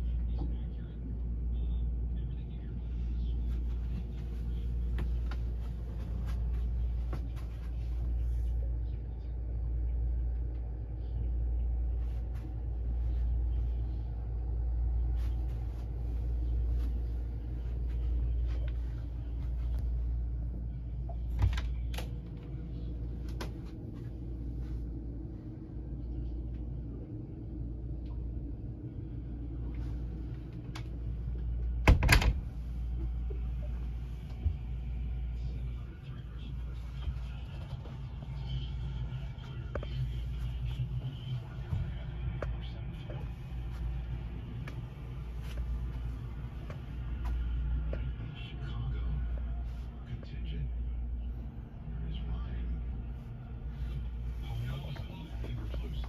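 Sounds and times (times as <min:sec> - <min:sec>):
low machinery hum: 0:00.0 - 0:56.0.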